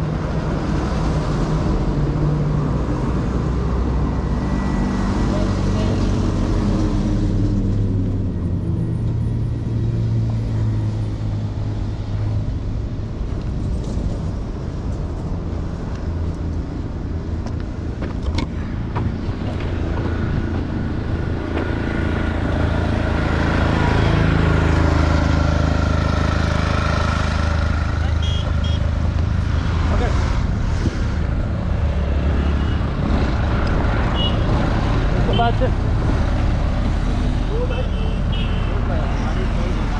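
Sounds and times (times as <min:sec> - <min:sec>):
highway traffic passing: 0:00.0 - 0:39.9.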